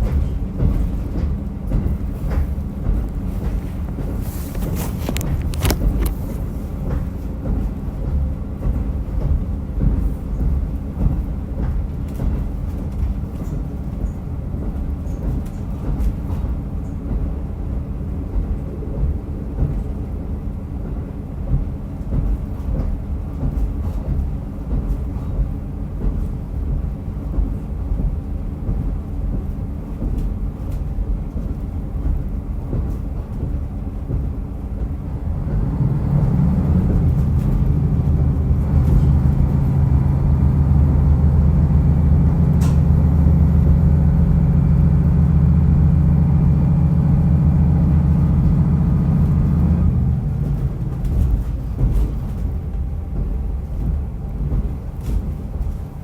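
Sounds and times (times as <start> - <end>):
railcar engine and wheels rumbling: 0.0 - 56.0.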